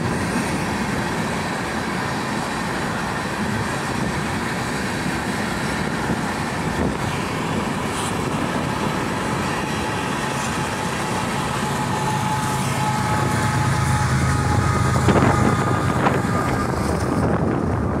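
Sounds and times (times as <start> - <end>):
freight cars rolling on rails: 0.0 - 18.0
locomotive engine hum: 0.0 - 18.0.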